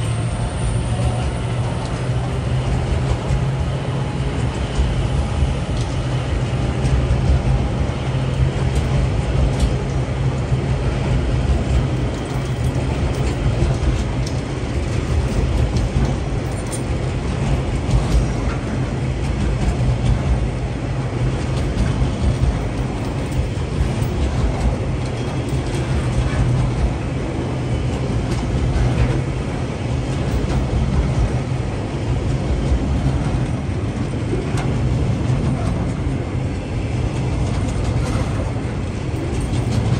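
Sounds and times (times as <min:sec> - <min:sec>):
train wheels rumbling on rails: 0:00.0 - 0:39.9
wagons clicking and clanking: 0:04.4 - 0:39.9.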